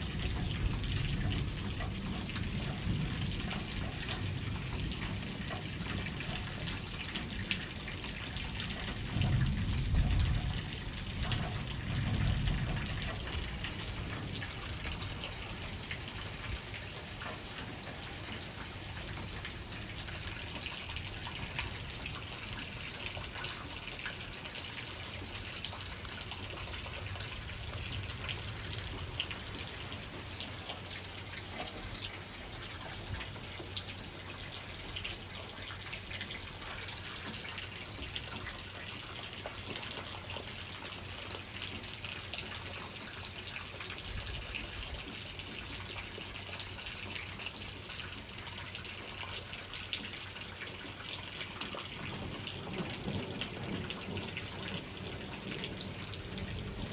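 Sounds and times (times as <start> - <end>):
rain falling steadily: 0.0 - 56.9.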